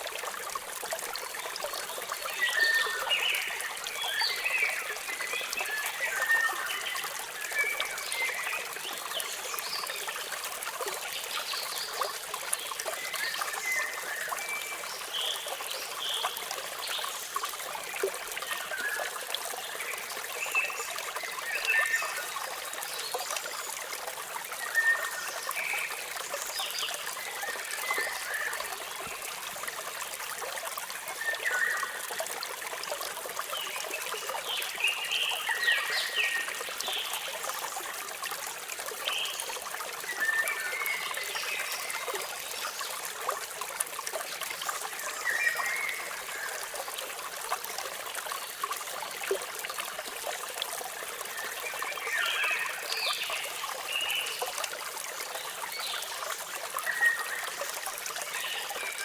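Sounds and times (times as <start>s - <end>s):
waterfall trickling and splashing: 0.0s - 59.0s.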